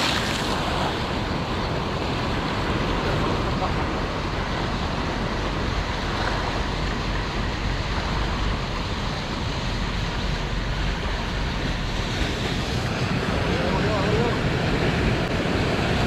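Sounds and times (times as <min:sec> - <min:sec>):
ocean surf washing: 0:00.0 - 0:16.0.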